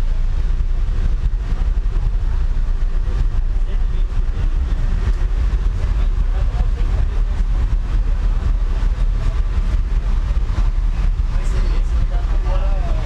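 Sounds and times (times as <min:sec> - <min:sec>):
loud car stereo with heavy bass: 0:00.0 - 0:13.0.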